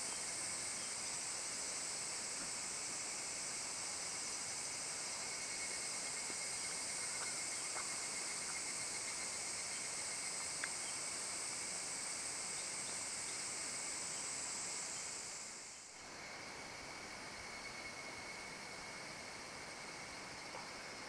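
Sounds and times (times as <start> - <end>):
insect chorus: 0.0 - 21.0.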